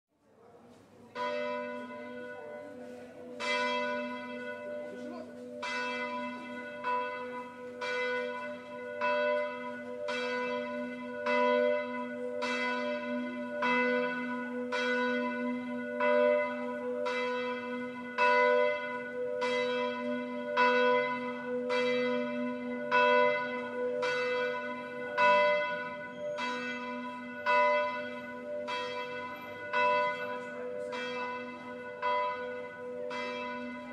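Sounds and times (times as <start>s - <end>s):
church bell tolling: 1.1s - 33.9s.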